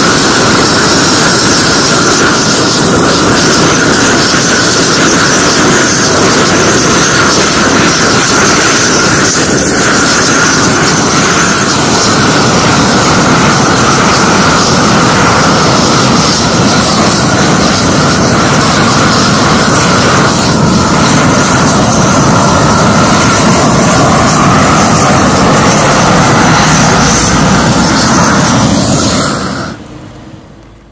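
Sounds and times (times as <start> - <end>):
gas torch roaring: 0.0 - 30.9.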